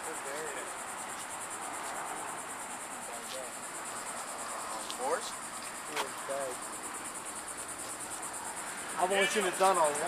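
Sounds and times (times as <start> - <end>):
distant voices murmuring: 0.0 - 10.0
insects trilling: 0.0 - 10.0.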